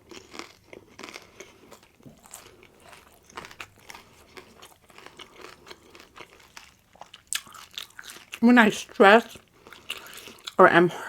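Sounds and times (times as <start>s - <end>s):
person chewing crunchy food: 0.0s - 10.6s.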